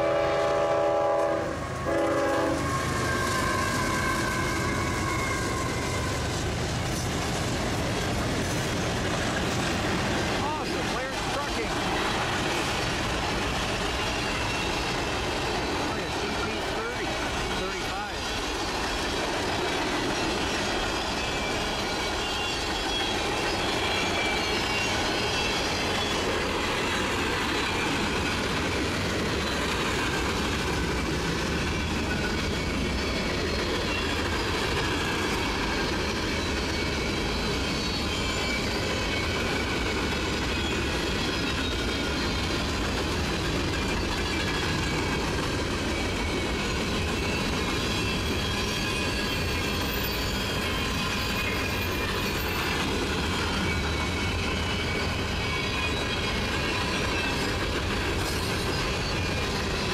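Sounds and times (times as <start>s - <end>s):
steel wheels rumbling on rails: 0.0s - 59.9s
high wheel squeal: 1.5s - 7.1s, 9.6s - 19.2s, 19.9s - 59.9s.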